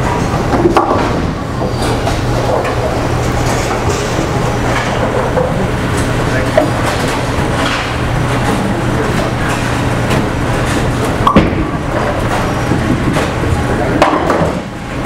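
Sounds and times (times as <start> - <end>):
bowling balls rolling: 0.0 - 15.0.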